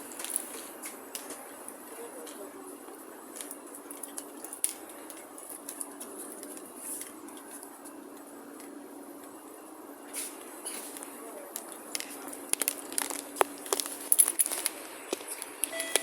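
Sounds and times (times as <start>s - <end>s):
train carriage hum: 0.0s - 16.0s.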